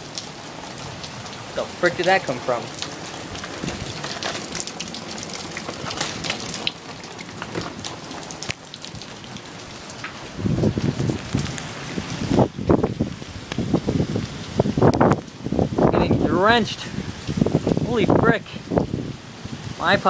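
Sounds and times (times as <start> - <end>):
heavy rain pattering: 0.0 - 20.0
raindrops striking near microphone: 0.0 - 20.0
wind buffeting microphone: 2.7 - 9.1, 10.0 - 20.0.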